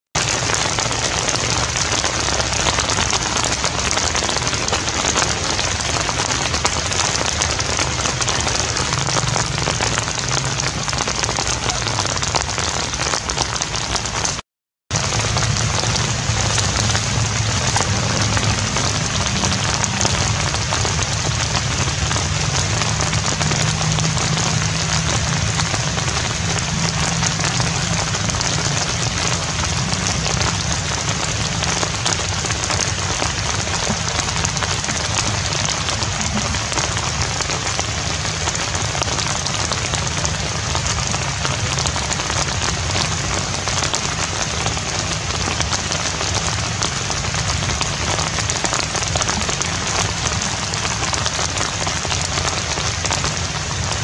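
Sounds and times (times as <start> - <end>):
heavy rain hissing: 0.2 - 54.0.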